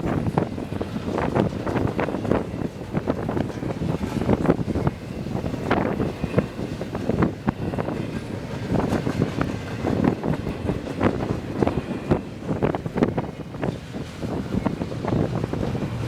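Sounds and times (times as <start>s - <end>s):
freight train rumbling past: 0.0s - 16.0s
wind buffeting microphone: 0.0s - 16.0s.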